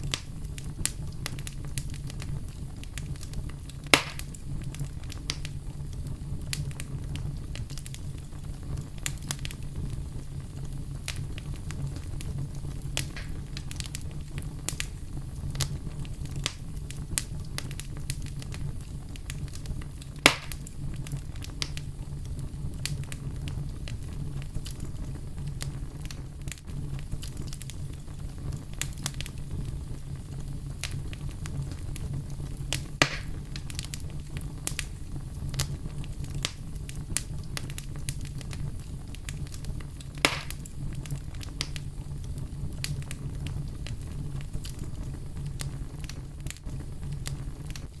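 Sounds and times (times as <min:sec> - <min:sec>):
fire popping: 0:00.0 - 0:48.0
wood fire crackling: 0:00.0 - 0:48.0.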